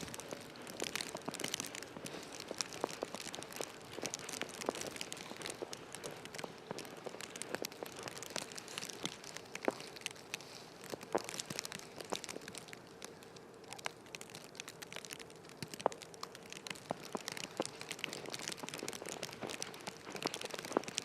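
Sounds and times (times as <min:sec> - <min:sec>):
footsteps crunching on snow: 0:00.0 - 0:12.6, 0:16.7 - 0:21.0
faint steady hum: 0:00.0 - 0:21.0.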